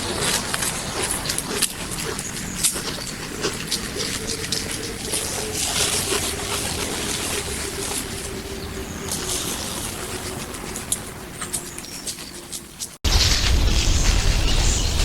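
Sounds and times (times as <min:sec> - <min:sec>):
dry leaves rustling: 0:00.0 - 0:15.0.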